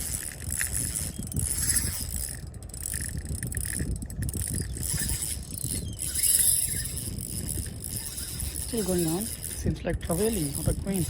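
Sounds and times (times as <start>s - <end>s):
fishing reel drag ratcheting: 0.0s - 11.0s.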